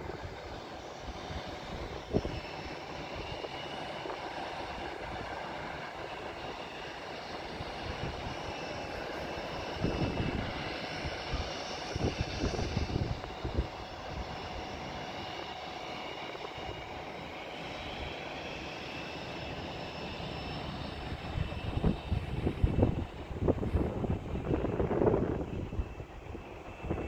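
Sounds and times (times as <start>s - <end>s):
distant jet engines running: 0.0s - 27.0s
wind buffeting microphone: 0.0s - 27.0s.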